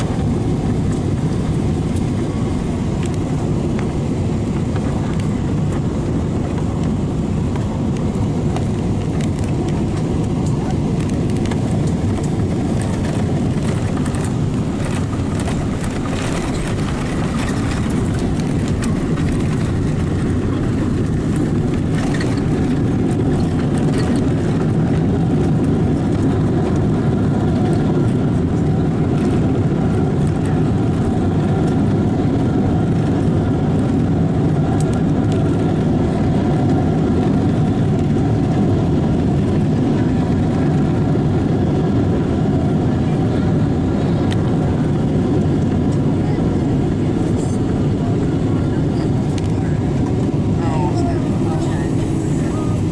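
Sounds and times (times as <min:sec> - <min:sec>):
aircraft cabin rumble and roar: 0:00.0 - 0:52.9.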